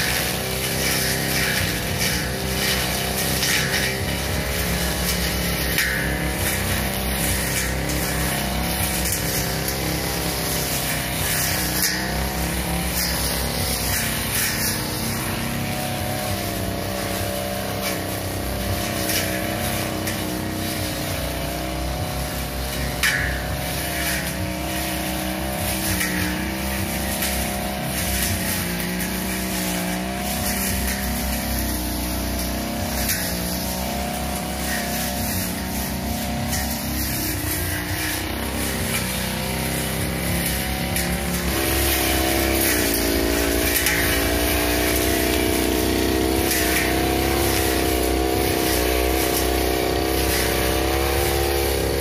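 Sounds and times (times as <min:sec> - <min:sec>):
brush cutter engine cutting grass: 0:00.0 - 0:52.0.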